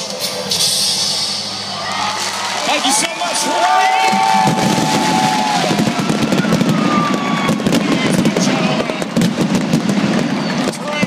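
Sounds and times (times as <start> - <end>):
crowd: 0.0 - 11.0
fireworks crackling and popping: 0.4 - 11.0.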